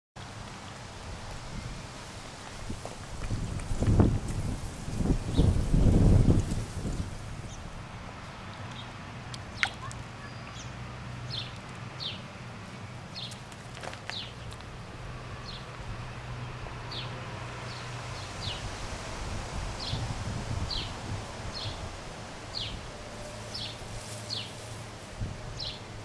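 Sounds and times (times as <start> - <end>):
faint outdoor rustle: 0.2 - 26.0.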